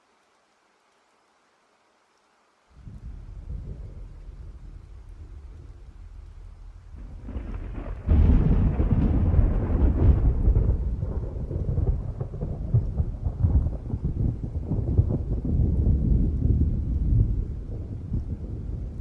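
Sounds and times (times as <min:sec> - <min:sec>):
crackling thunder clap: 0:02.8 - 0:19.0
thunder rumbling: 0:02.8 - 0:19.0.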